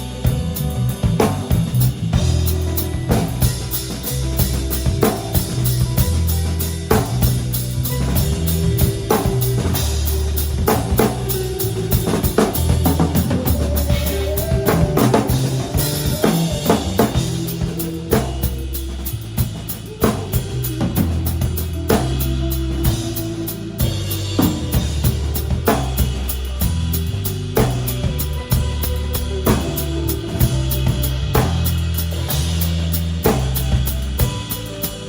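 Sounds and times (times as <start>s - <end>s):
drum kit groove: 0.0s - 35.0s
electric bass notes: 0.0s - 35.0s
electric guitar lines: 0.0s - 35.0s.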